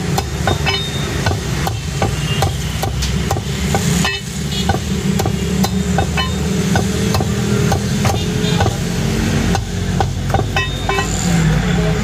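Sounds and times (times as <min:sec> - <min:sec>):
cleaver chopping on wooden block: 0:00.0 - 0:11.0
vehicle traffic rumble: 0:00.0 - 0:12.0.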